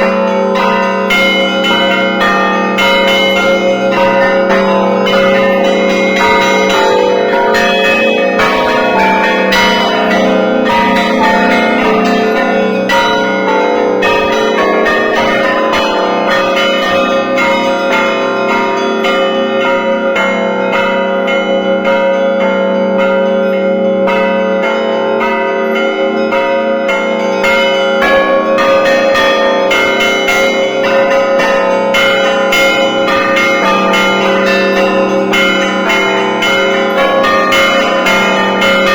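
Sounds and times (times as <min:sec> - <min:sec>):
large bells ringing steadily: 0:00.0 - 0:38.9
small bells rhythmic ringing: 0:00.0 - 0:38.9.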